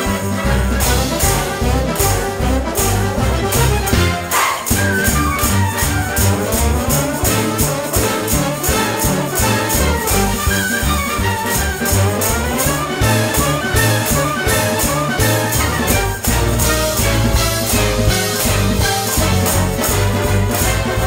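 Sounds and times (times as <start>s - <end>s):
instrumental music with brass: 0.0s - 21.0s.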